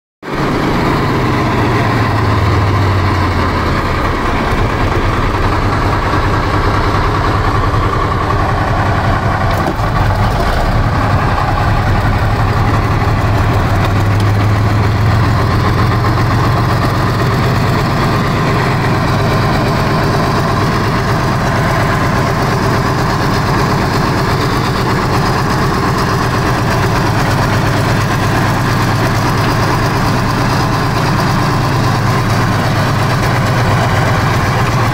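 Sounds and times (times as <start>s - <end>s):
tank diesel engine rumbling: 0.2s - 34.9s.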